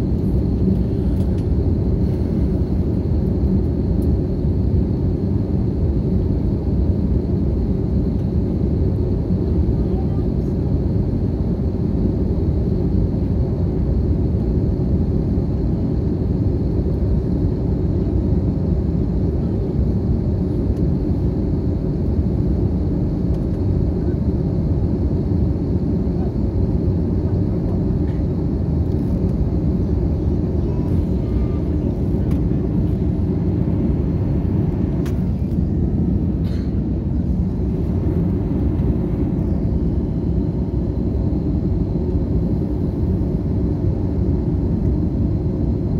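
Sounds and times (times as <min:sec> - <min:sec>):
airliner cabin drone: 0:00.0 - 0:45.9.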